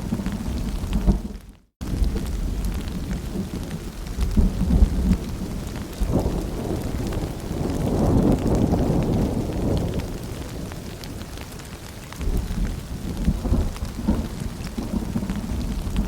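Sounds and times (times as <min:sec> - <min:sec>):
rolling thunder: 0:00.0 - 0:16.0
steady rain pattering: 0:00.0 - 0:16.0.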